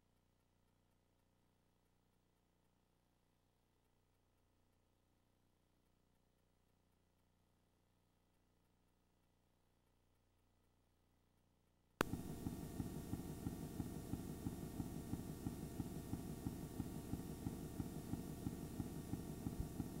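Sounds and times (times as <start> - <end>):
low hum with crackle: 0.0 - 20.0.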